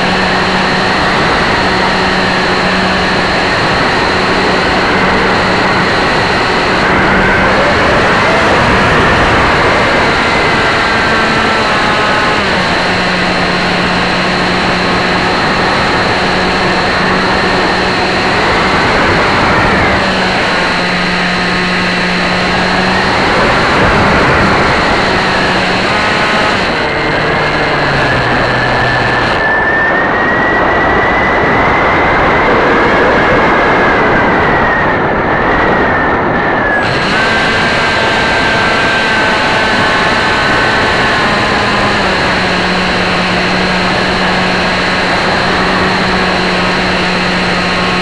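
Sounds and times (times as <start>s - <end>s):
electric motor and propeller whining: 0.0s - 48.0s
wind rush: 0.0s - 48.0s.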